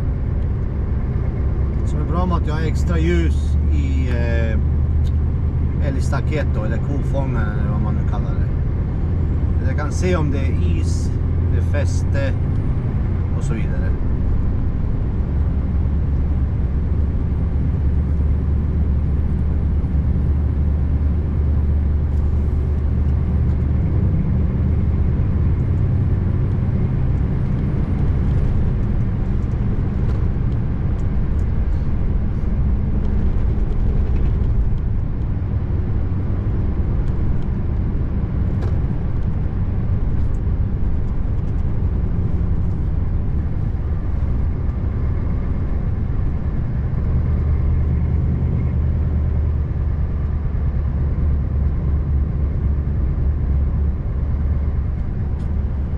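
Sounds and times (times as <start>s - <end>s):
truck diesel engine drone: 0.0s - 55.9s
tyre and road noise: 0.0s - 55.9s.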